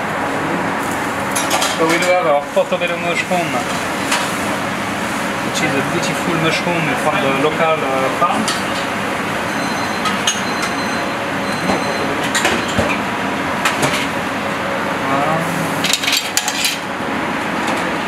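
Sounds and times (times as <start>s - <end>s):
kitchen ventilation rushing: 0.0s - 18.0s.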